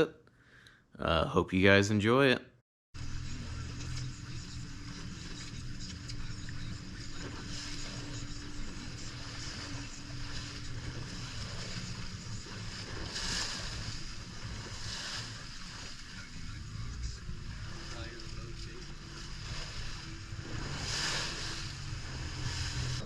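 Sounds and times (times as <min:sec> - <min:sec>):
boat motor humming: 0:03.0 - 0:23.0
water rushing: 0:03.0 - 0:23.0
wind: 0:03.0 - 0:23.0.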